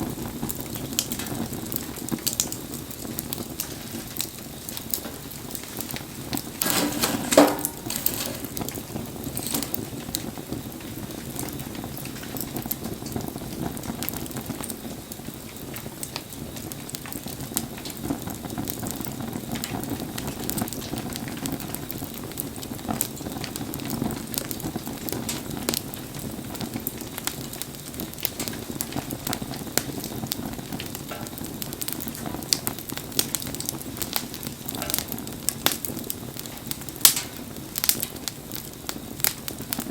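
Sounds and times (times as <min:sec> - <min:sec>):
rain: 0:00.0 - 0:06.7, 0:08.4 - 0:39.9
wood fire crackling and hissing: 0:00.0 - 0:39.9.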